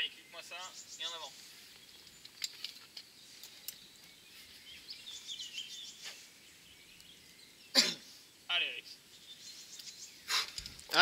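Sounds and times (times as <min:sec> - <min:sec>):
faint outdoor ambience: 0:00.0 - 0:11.0
small bird chirping: 0:00.0 - 0:11.0.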